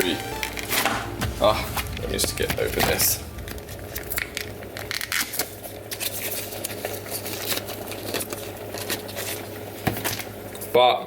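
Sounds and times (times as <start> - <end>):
steady low hum: 0.4 - 9.8.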